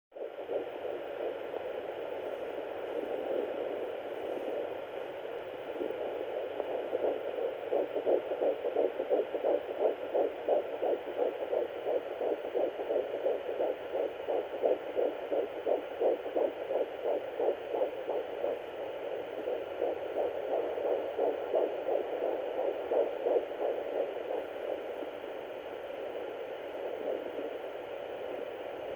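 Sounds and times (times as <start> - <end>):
fast fetal heartbeat pulsing: 0.2 - 28.9.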